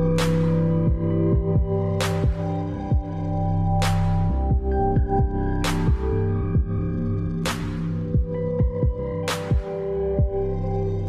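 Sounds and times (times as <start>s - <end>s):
electronic music with low thuds: 0.0s - 11.0s.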